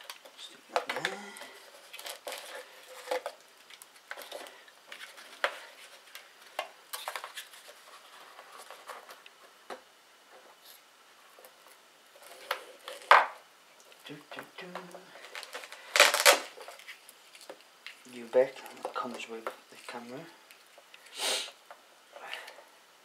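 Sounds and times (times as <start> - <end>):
hands handling plastic parts: 0.0 - 11.6, 12.2 - 21.1.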